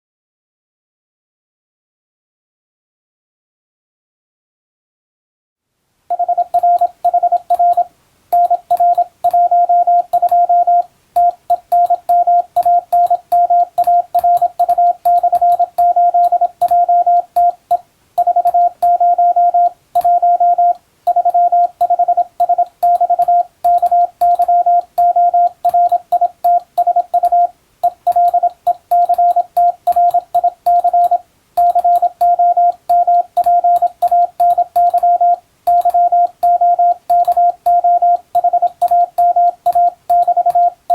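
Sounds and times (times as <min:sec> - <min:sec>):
morse code beeps: 0:06.1 - 0:40.9.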